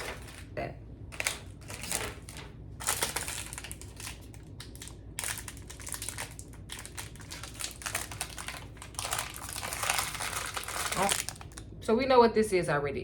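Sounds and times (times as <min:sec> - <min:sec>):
plastic candy wrapper crinkling: 0:00.0 - 0:11.7.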